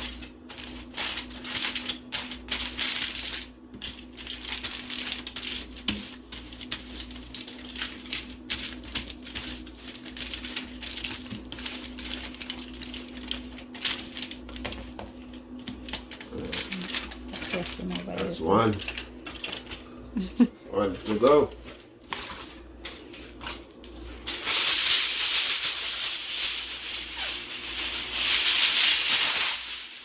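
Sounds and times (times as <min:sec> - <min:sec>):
wrapping crinkling and rustling: 0:00.0 - 0:30.0.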